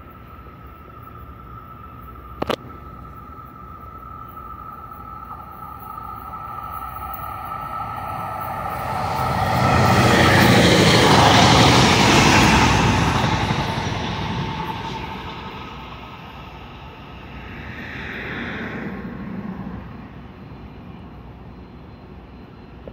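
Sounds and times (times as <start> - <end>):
train passing: 0.0 - 22.9.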